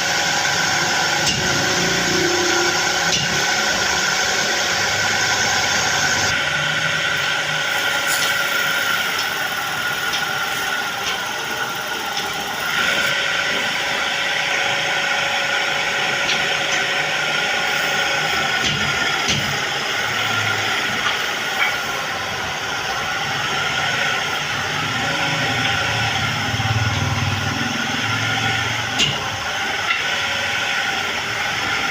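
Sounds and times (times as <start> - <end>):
woodworking machine whine: 0.0 - 31.9.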